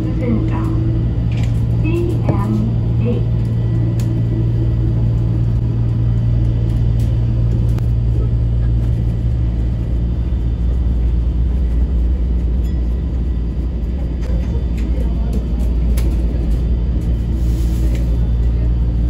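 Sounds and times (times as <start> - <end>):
monorail car rumble and hum: 0.0 - 19.0.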